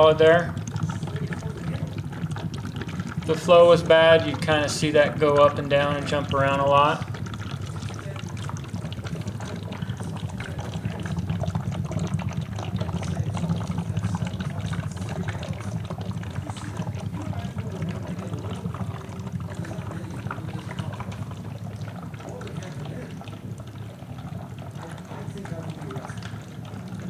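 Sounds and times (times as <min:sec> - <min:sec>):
bubbling and gurgling liquid: 0:00.0 - 0:27.0.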